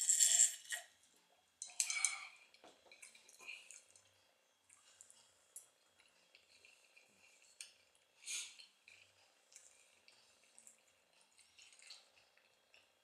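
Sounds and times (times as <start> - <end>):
wet chewing and mouth clicks: 1.7 - 13.0.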